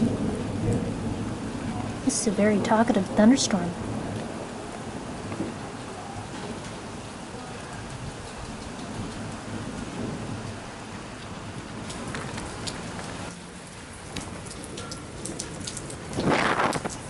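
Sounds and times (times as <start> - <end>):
distant thunder rumble: 0.0 - 17.0
light rain falling: 0.0 - 17.0
raindrops ticking close by: 0.0 - 17.0.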